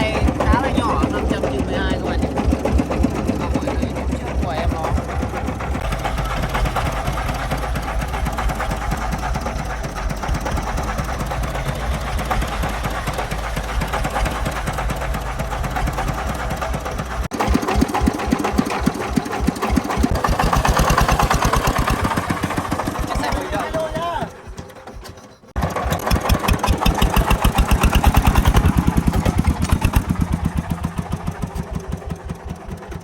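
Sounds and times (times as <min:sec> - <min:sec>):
diesel engine drone: 0:00.0 - 0:33.0
engine running with rapid beat: 0:00.0 - 0:33.0.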